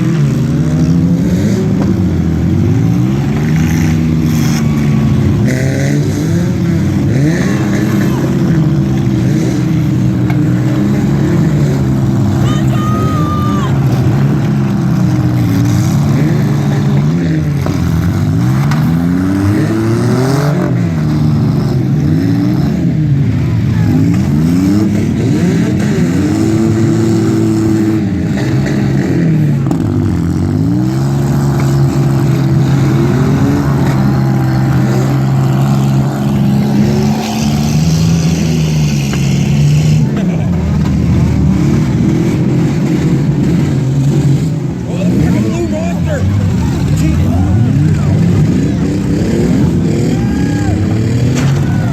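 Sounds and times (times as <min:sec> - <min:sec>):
car engines revving: 0:00.0 - 0:51.9.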